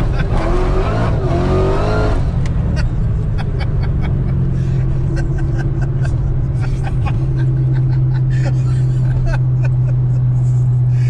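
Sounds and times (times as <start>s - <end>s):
car engine cruising: 0.0s - 11.0s.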